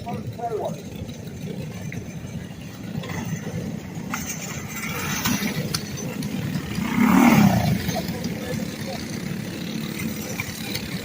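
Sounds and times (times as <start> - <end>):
small racing engines rumbling: 0.0 - 11.0.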